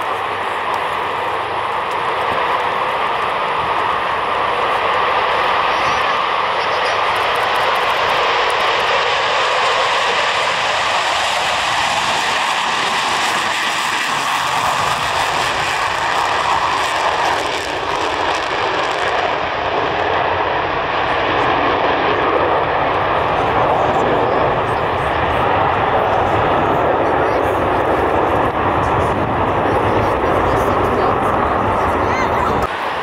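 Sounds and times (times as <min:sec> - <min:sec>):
loud jet engine roar: 0:00.0 - 0:33.0.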